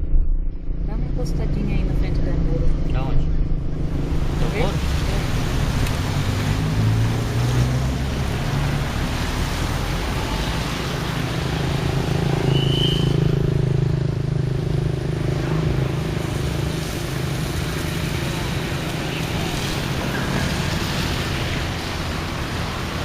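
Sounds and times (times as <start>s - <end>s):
storm wind: 0.0s - 23.0s
heavy rain: 2.9s - 23.0s.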